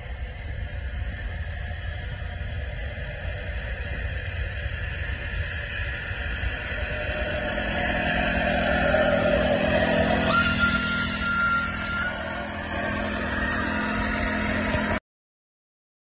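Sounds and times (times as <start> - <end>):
small diesel engine running: 0.0 - 15.0.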